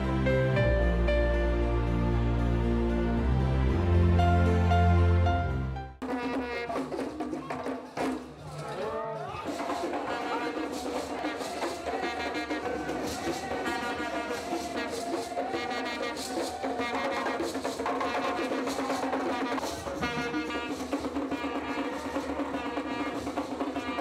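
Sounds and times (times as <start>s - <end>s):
brass band playing with drums: 0.0s - 24.0s.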